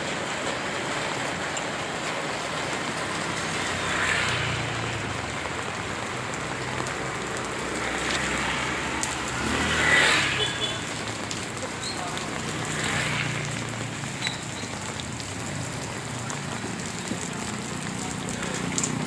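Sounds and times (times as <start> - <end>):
steady rain falling: 0.0 - 19.0
vehicle passing: 2.6 - 19.0.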